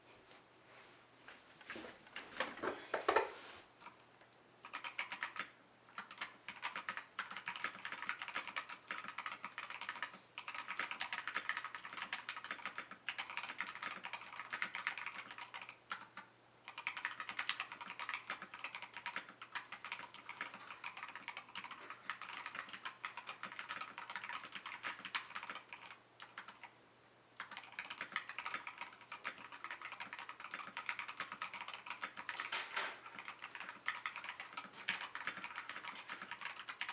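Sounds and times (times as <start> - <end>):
fast mechanical keyboard typing: 4.6 - 26.7, 27.4 - 36.9.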